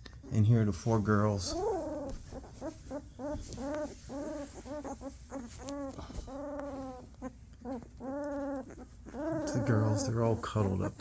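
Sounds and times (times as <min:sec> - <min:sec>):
puppies whimpering: 0:00.2 - 0:11.0.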